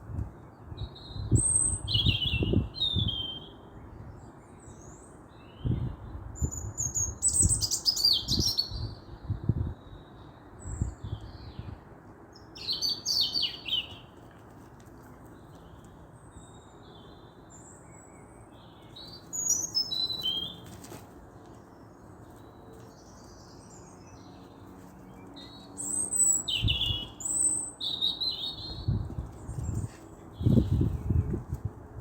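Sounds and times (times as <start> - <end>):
small songbirds chirping: 0.2 - 14.4, 15.1 - 31.7.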